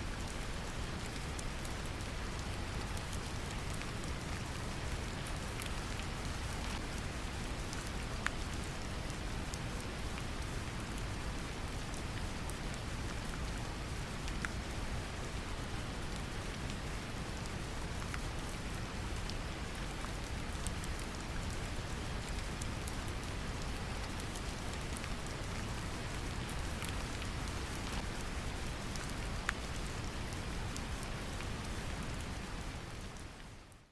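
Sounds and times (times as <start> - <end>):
rain drop ticks: 0.3 - 10.4, 16.1 - 33.2.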